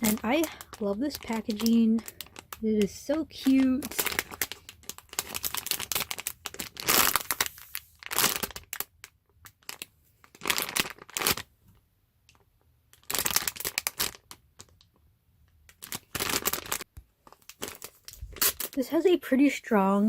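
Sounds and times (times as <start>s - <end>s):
crinkly plastic packaging rustling: 0.0s - 19.7s.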